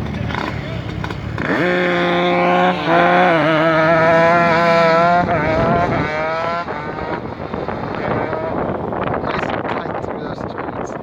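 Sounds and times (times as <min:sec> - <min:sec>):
go-kart engine revving high: 0:00.0 - 0:10.0.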